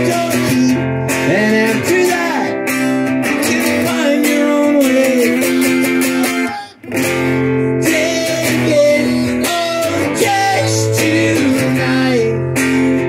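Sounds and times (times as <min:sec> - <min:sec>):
man singing: 0:00.0 - 0:06.8, 0:07.6 - 0:12.9
acoustic guitar strumming: 0:00.0 - 0:13.0.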